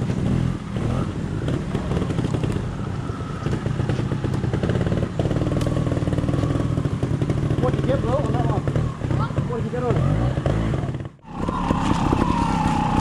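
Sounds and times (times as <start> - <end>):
motorcycle engine with throttle blips: 0.0 - 13.0.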